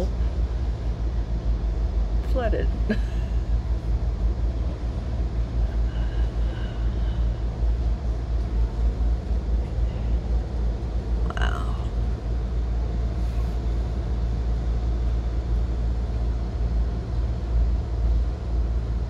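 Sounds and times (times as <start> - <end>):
moving train rumble: 0.0 - 19.0.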